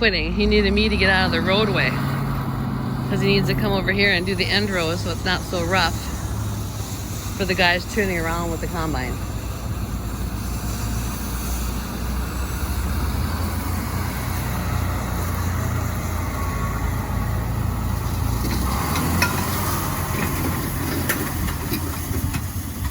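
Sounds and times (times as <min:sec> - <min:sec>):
heavy machinery engine droning: 0:00.0 - 0:22.9.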